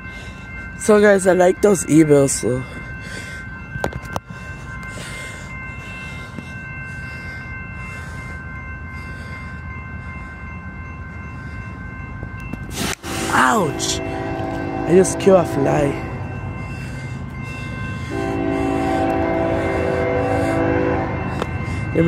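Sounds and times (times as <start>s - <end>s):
crossing warning bell ringing: 0.0s - 22.0s.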